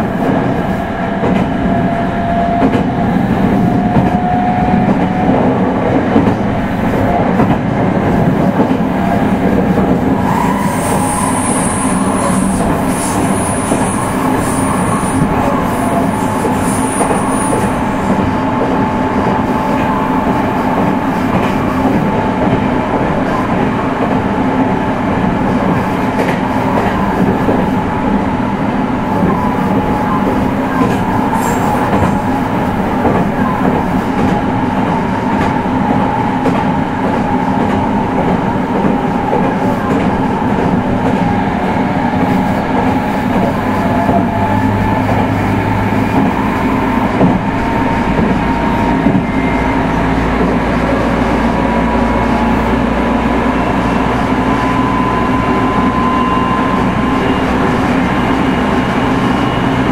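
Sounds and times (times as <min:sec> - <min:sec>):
train wheel and track rumble: 0:00.0 - 0:59.9.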